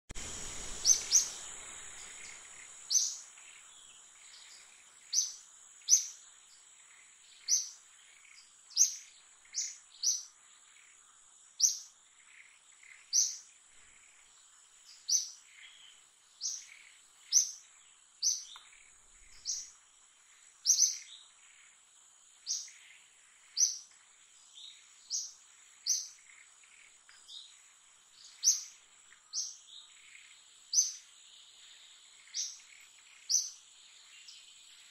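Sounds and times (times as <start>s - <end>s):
bird chirping: 0.2s - 34.9s
steady high-pitched whine: 0.2s - 34.9s.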